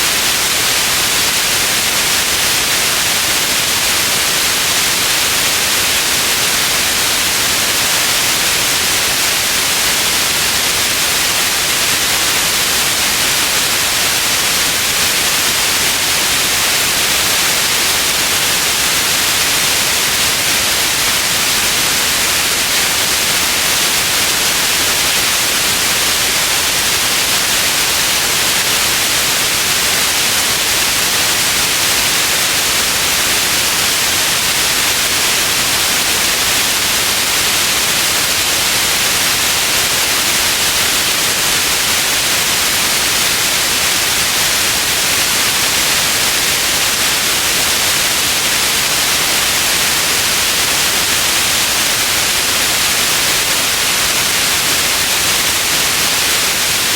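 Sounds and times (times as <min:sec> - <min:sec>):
white noise hiss: 0:00.0 - 0:56.9.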